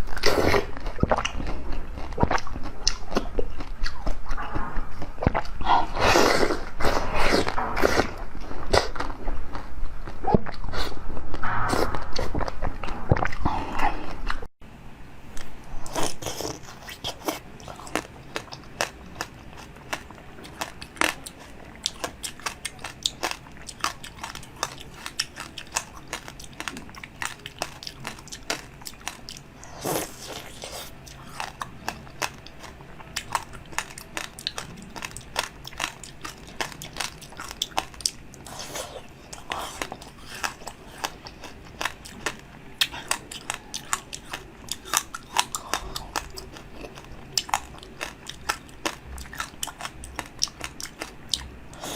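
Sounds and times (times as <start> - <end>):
person chewing crunchy food: 0.0 - 14.5, 15.4 - 51.9.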